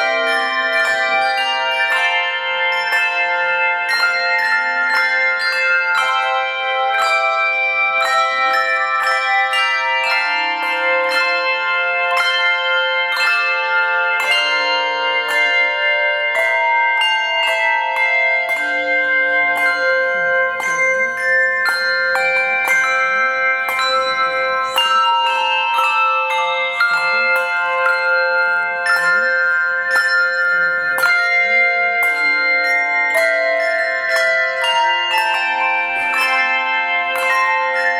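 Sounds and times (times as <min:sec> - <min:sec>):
handbell choir playing: 0:00.0 - 0:37.9.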